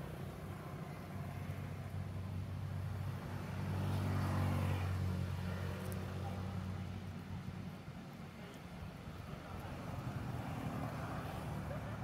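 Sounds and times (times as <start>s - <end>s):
vehicle engine passing by: 0.0s - 7.6s, 9.4s - 12.0s.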